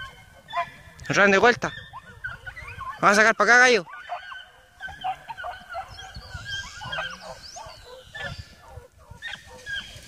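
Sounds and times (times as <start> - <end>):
hounds yelping and baying: 0.0 - 10.0.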